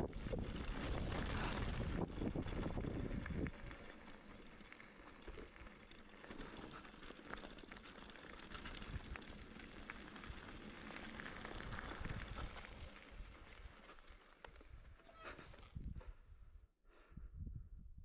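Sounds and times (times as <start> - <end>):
bike tyres rolling over gravel: 0.0 - 15.8.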